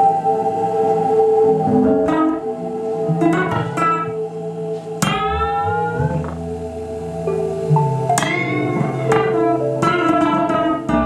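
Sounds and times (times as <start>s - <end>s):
steady held drone: 0.0s - 11.0s
plucked string notes sliding: 1.6s - 11.0s.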